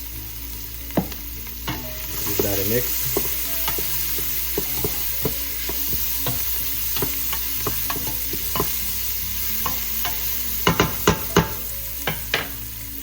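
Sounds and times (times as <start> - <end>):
vegetables sizzling in hot oil: 0.0 - 13.0
spatula knocking against pot: 1.0 - 8.8, 9.7 - 12.5.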